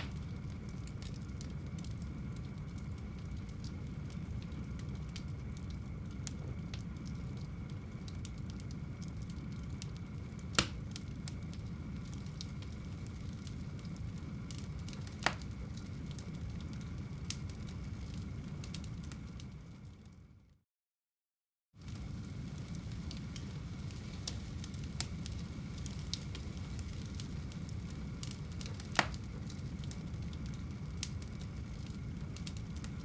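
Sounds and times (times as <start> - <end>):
fire crackles and pops: 0.0 - 20.5, 21.8 - 33.0
fire flames rumbling: 0.0 - 20.6, 21.8 - 33.0.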